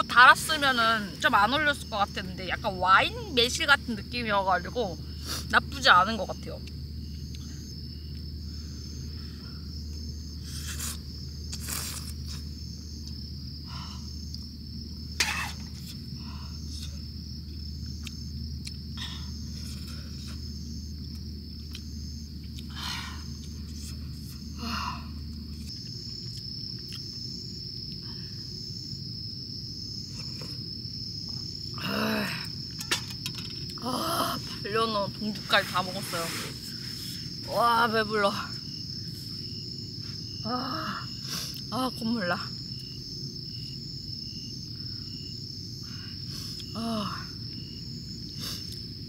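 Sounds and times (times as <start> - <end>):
crickets chirring: 0.0 - 49.0.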